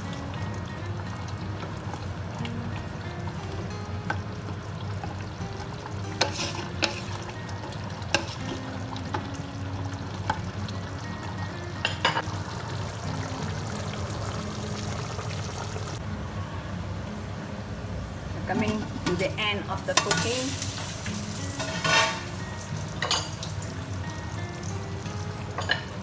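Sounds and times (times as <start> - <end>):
gravy sizzling in pot: 0.0 - 16.1, 17.8 - 26.0.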